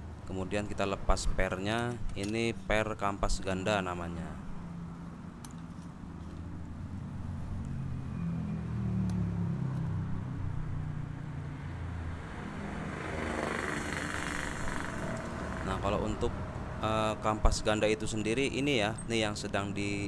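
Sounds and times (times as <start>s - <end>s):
vehicle engine rumbling: 0.6s - 20.0s.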